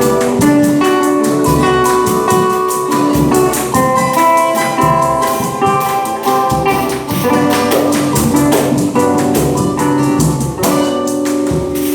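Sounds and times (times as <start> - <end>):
held instrument notes: 0.0 - 11.9
steady drum beat: 0.0 - 11.9.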